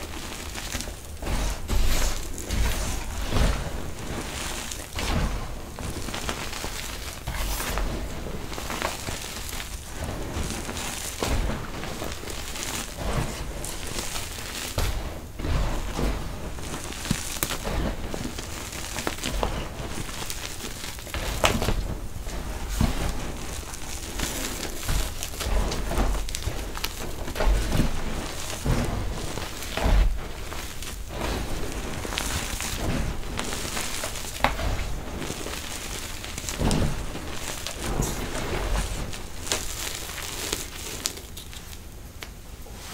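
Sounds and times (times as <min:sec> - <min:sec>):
dirt pouring through fingers: 0:00.0 - 0:42.3.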